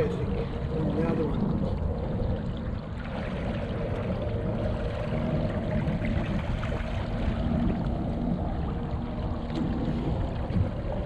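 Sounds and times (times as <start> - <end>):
water rushing against kayak hull: 0.0 - 11.0.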